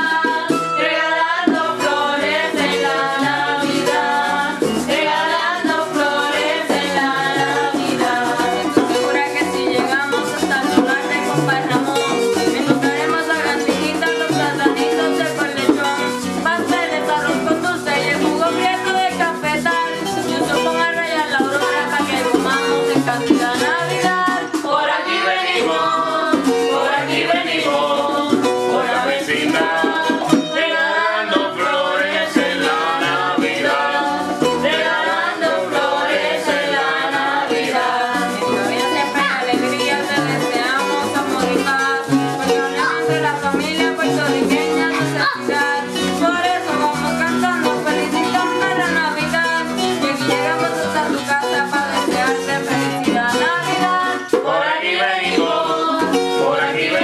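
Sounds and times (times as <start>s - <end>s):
acoustic guitars strumming: 0.0s - 57.0s
girl singing: 0.0s - 57.0s.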